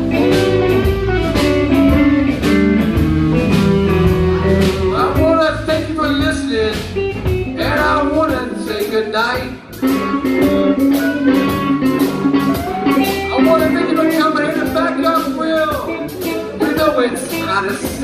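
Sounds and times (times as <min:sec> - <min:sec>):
bass guitar: 0:00.0 - 0:18.0
drums: 0:00.0 - 0:18.0
electric guitar lead: 0:00.0 - 0:18.0.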